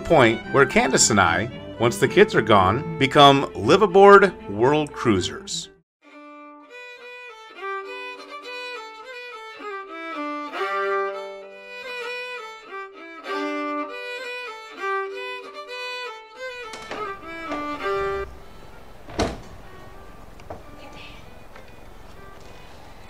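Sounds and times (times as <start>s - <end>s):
instrumental music with held notes: 0.0s - 23.0s.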